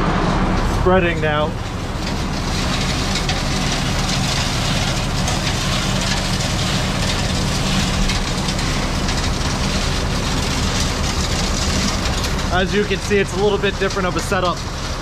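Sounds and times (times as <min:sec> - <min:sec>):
salt pouring through spreader chute: 0:00.0 - 0:15.0
truck engine and hydraulics humming: 0:00.0 - 0:15.0.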